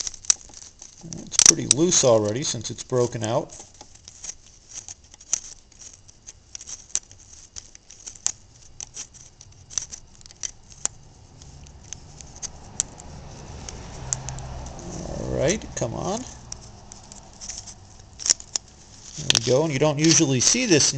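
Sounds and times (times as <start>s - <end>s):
pliers clicking and scraping metal: 0.0s - 20.9s.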